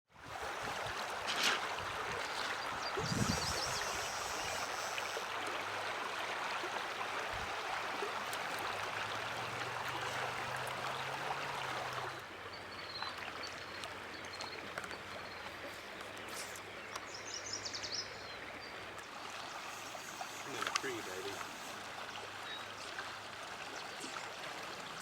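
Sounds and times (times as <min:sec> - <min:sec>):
flowing stream water: 0:00.1 - 0:25.0.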